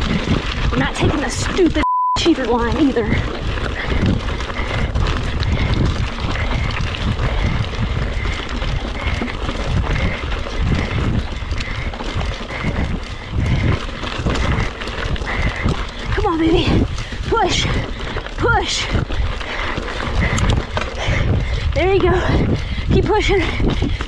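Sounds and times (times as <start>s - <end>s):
bike rattling: 0.0s - 24.0s
tyres crunching on trail: 0.0s - 24.0s
wind rumble on microphone: 0.0s - 24.0s.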